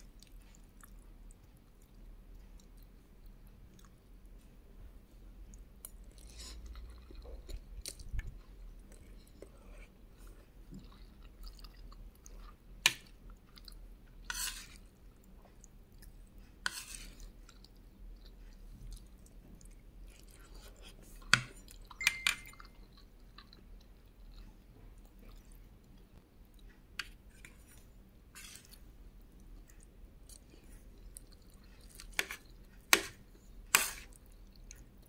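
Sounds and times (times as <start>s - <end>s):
chewing and mouth sounds: 0.0s - 4.2s, 5.5s - 35.0s.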